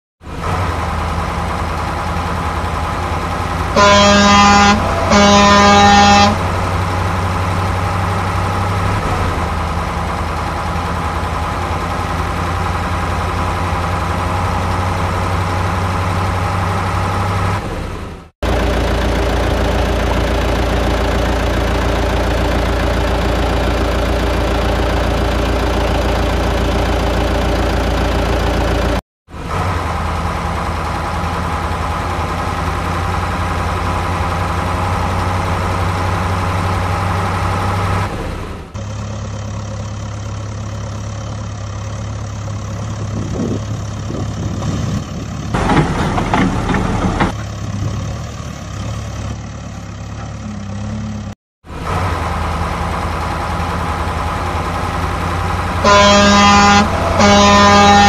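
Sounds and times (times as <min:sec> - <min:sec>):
truck engine idling: 0:00.2 - 0:58.0.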